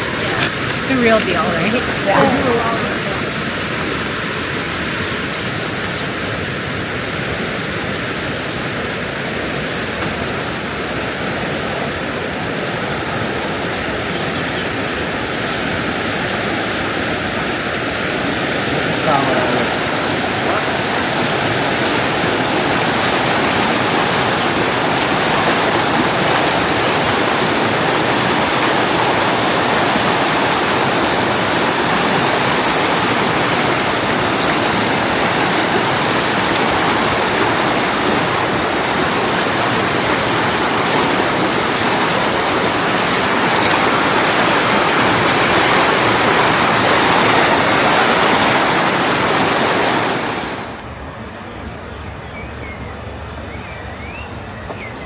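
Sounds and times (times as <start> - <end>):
rushing mountain water: 0.0 - 50.9.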